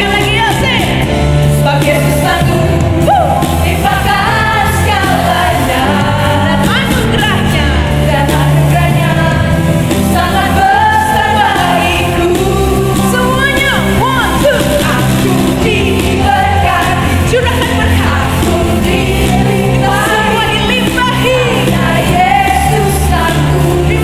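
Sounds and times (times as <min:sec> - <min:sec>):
worship band playing pop song: 0:00.0 - 0:24.0.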